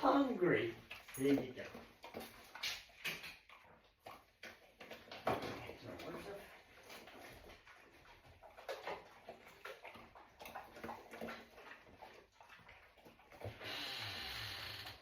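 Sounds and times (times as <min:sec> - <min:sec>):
dogs chewing and licking food: 0:00.0 - 0:15.0.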